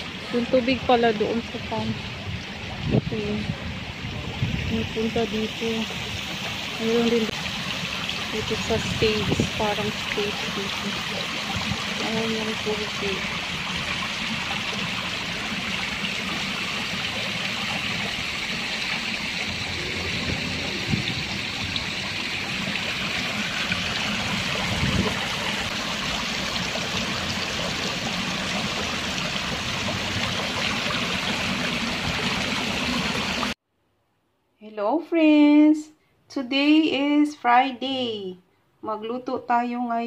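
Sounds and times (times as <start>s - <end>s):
fountain water splashing into basin: 0.0s - 33.6s.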